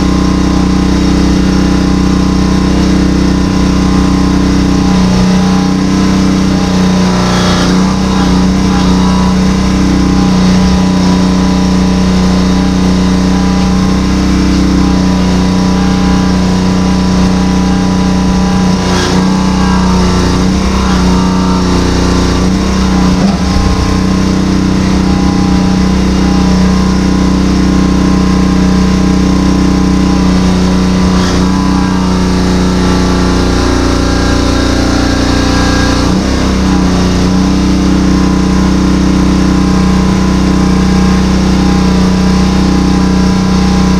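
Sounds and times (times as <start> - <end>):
small engine running hydraulic pump: 0.0 - 43.9.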